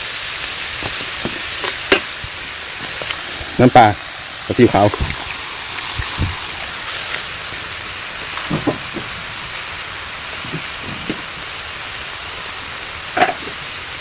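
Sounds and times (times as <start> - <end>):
stir-fry sizzling in a pan: 0.0 - 14.0
utensil knocking: 0.7 - 12.5.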